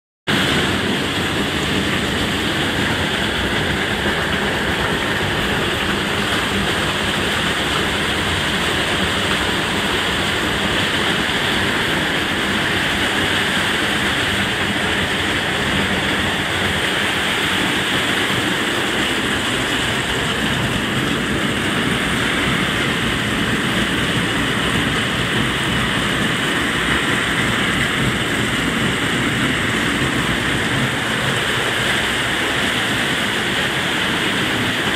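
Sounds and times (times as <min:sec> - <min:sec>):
heavy rain on a roof: 0:00.3 - 0:34.9.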